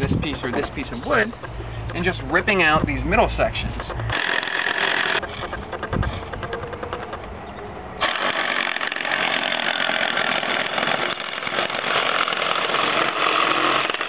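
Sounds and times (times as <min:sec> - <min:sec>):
reciprocating saw cutting wood: 0:00.0 - 0:07.2, 0:08.0 - 0:14.0.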